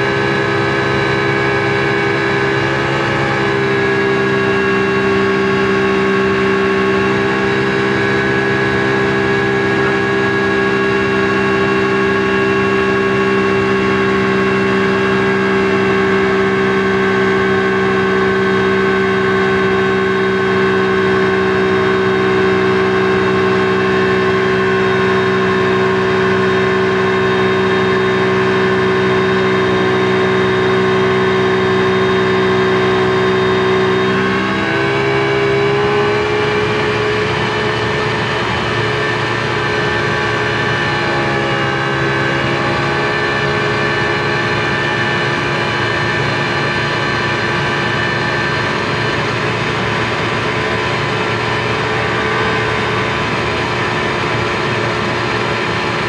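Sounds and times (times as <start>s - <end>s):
speedboat engine running: 0.0s - 56.0s.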